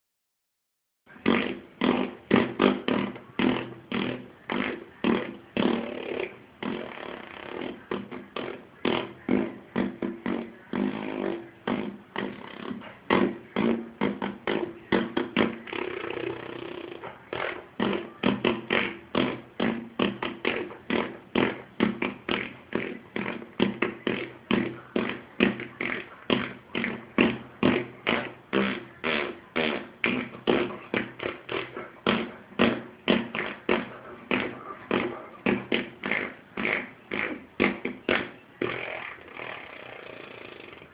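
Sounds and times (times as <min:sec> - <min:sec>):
fart noises: 0:01.1 - 0:40.9.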